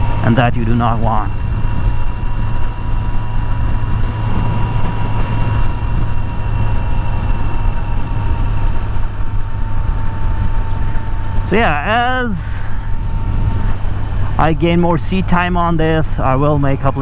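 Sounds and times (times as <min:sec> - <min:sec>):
motorcycle engine cruising: 0:00.0 - 0:17.0
wind noise: 0:00.0 - 0:17.0.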